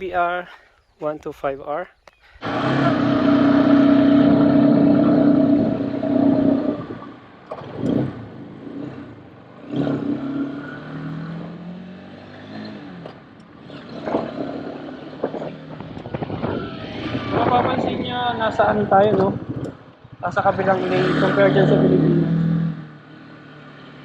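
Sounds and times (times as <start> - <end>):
vehicles passing on a road: 2.4 - 24.0.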